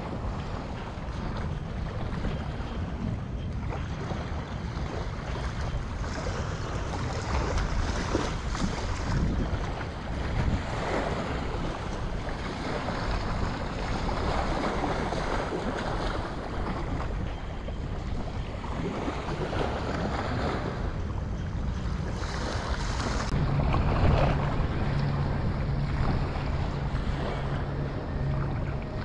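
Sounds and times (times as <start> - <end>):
steady low hum: 0.0 - 29.0
wind buffeting microphone: 0.0 - 29.0
small waves washing on sand: 3.7 - 21.0, 21.8 - 27.8.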